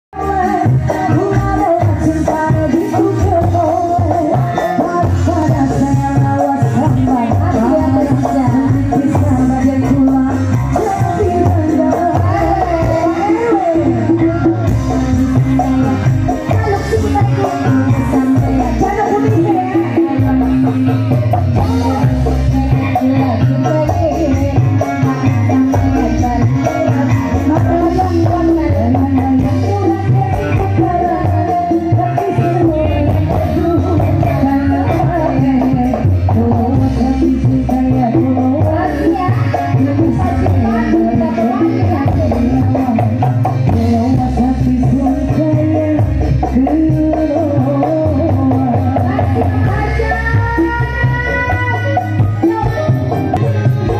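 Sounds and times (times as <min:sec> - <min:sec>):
bass line: 0:00.1 - 0:53.9
live band music over loudspeakers: 0:00.1 - 0:53.9
person singing: 0:00.1 - 0:53.9.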